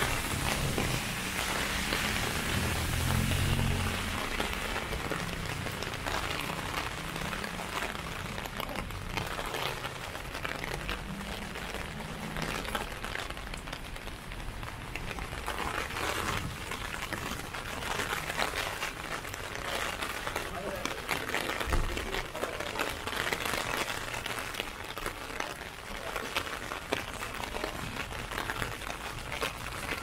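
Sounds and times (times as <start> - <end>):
rain on an umbrella: 0.0 - 30.0.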